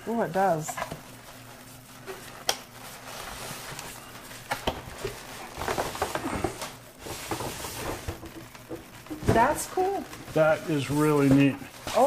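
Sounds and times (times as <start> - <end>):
cardboard and foam rustling: 1.2 - 12.0.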